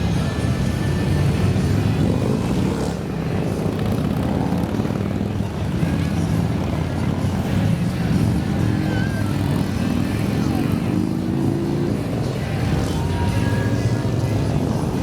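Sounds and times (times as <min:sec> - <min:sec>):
motorcycle engines droning: 0:00.0 - 0:15.0.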